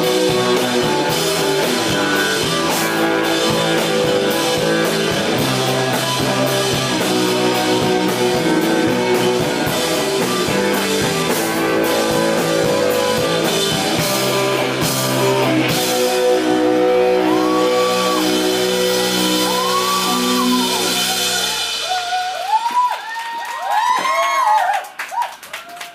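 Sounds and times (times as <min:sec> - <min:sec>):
guitar chords ringing: 0:00.0 - 0:21.8
live rock band playing: 0:00.0 - 0:24.6
crowd cheering: 0:00.0 - 0:25.9.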